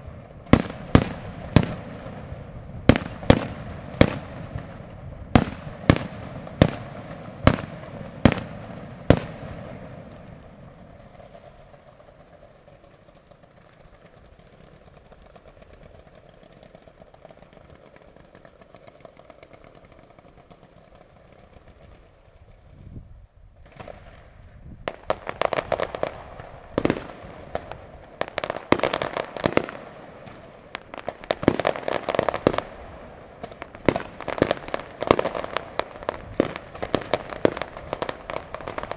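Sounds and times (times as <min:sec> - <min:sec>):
firework cracks: 0:00.0 - 0:22.3, 0:23.6 - 0:38.9.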